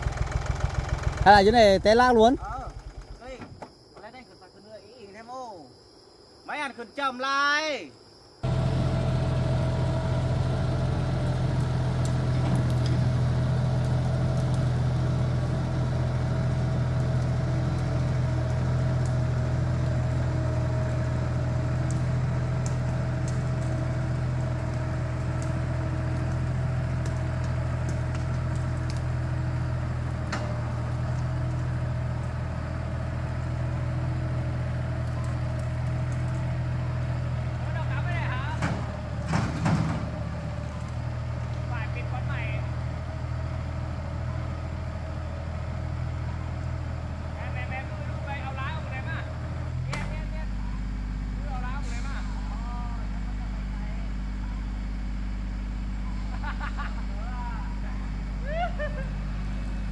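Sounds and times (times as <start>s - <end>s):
tractor diesel engine running: 0.0s - 3.4s, 8.4s - 59.9s.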